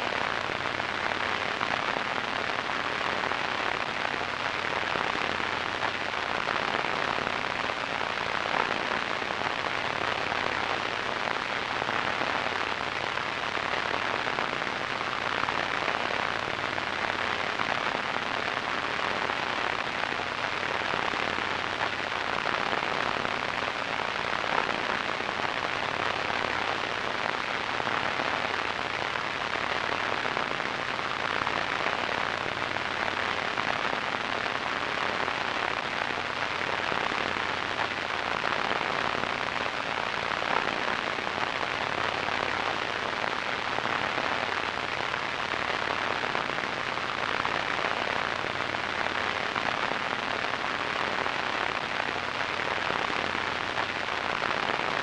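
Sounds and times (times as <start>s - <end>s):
radio static hiss and crackle: 0.0s - 55.0s.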